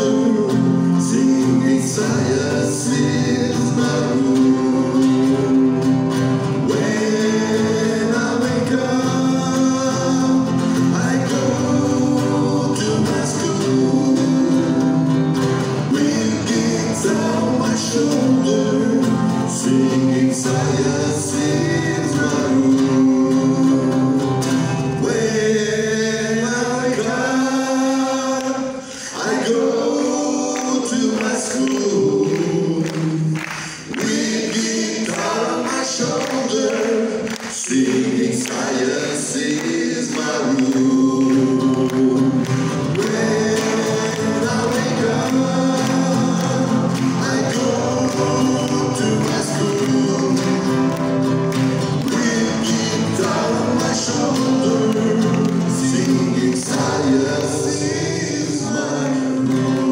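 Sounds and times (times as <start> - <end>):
acoustic guitars strumming: 0.0 - 59.9
people singing together: 0.0 - 59.9.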